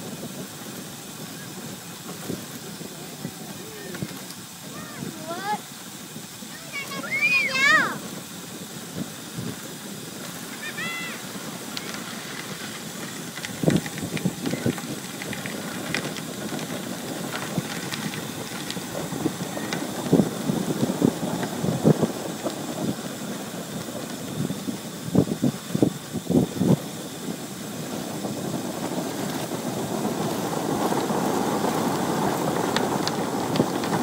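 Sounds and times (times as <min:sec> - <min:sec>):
bike tyre noise: 0:00.0 - 0:34.0
wind rushing over microphone: 0:00.0 - 0:34.0.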